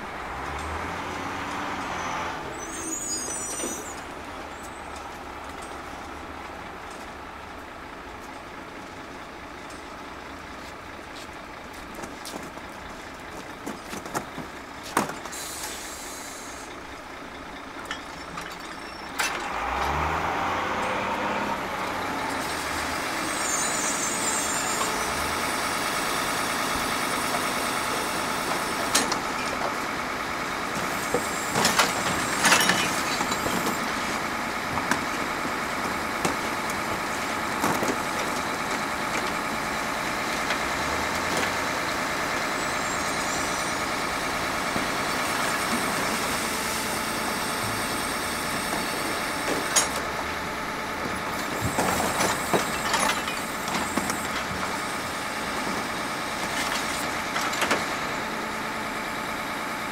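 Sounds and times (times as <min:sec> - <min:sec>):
garbage truck running: 0:00.0 - 0:59.9.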